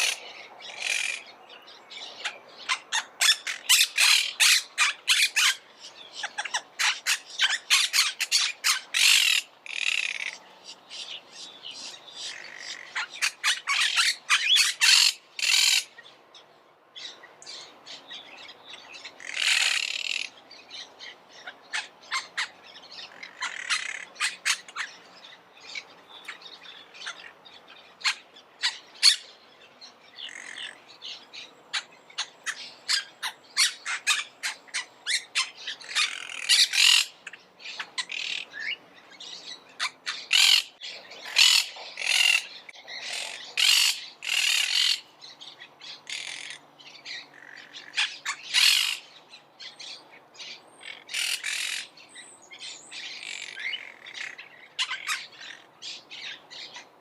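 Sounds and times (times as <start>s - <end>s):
parakeets screeching: 0.0s - 1.3s, 2.1s - 10.4s, 11.8s - 16.0s, 19.0s - 20.4s, 21.0s - 29.3s, 30.2s - 52.0s, 52.6s - 56.9s.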